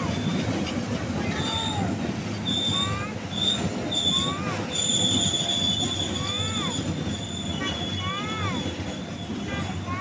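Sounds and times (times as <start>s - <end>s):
train rumbling on rails: 0.0s - 10.0s
wheel squeal: 0.0s - 10.0s
train whistles: 1.4s - 10.0s.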